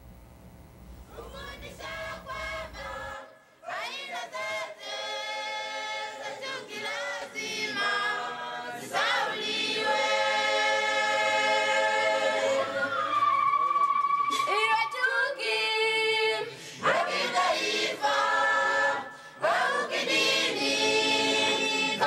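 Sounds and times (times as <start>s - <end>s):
choral singing: 1.1s - 22.0s.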